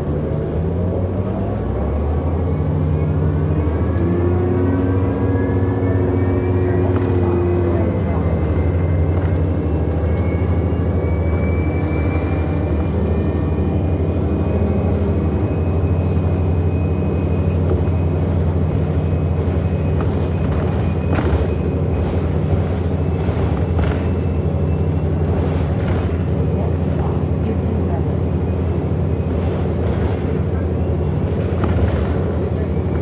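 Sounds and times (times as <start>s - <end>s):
bus interior drone: 0.0s - 33.0s.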